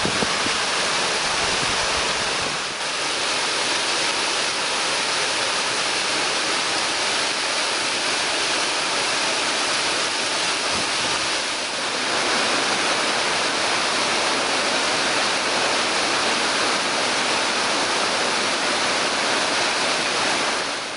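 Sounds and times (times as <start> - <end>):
waterfall rushing into pool: 0.0 - 20.9.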